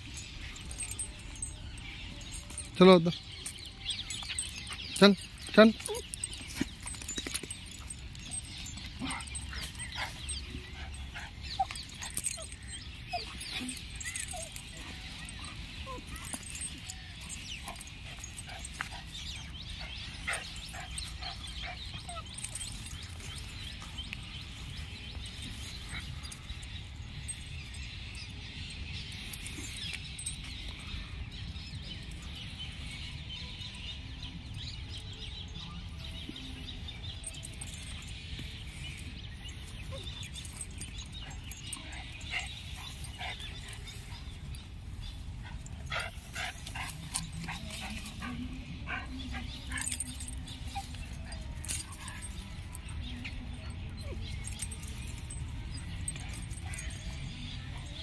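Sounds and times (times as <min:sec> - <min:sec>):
dogs yipping and whining: 0:00.0 - 0:58.0
metal chains clinking: 0:00.0 - 0:58.0.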